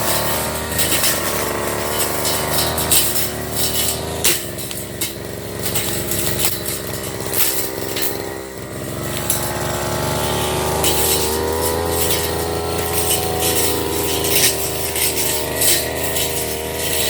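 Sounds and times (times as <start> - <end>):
brush cutter engine: 0.0 - 17.0.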